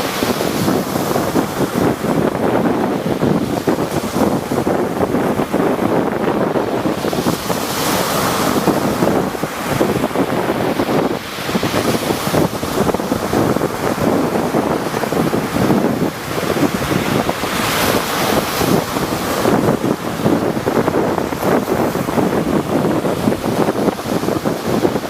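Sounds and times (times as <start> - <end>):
rough sea waves breaking: 0.0 - 25.0
wind buffeting microphone: 0.0 - 25.0.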